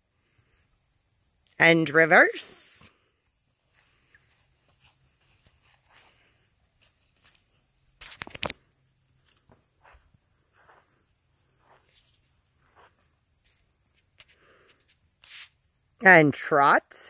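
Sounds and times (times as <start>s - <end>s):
crickets chirring: 0.0s - 16.9s.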